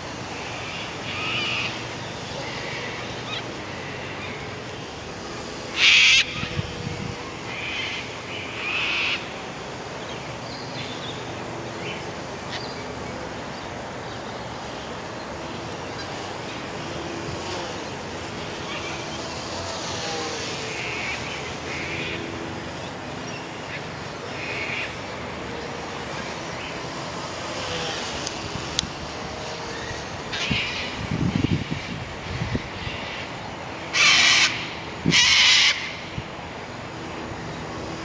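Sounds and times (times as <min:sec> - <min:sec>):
steady wind: 0:00.0 - 0:38.0.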